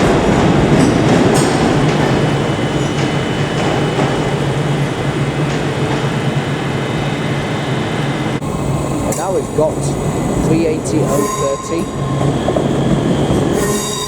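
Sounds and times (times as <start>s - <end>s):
electric train humming: 0.0s - 14.0s
train wheels clicking over rail joints: 0.0s - 14.0s.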